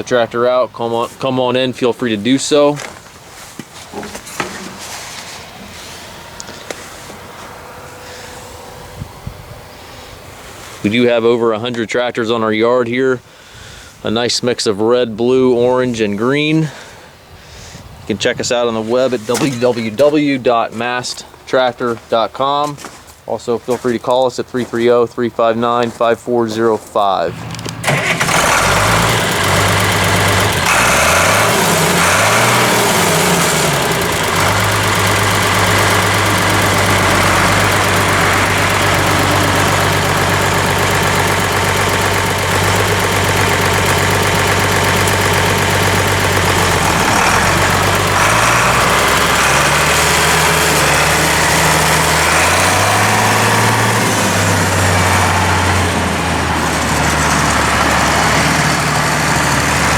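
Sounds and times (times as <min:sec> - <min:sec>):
tractor engine idling: 0:00.0 - 0:13.9, 0:24.6 - 0:59.9.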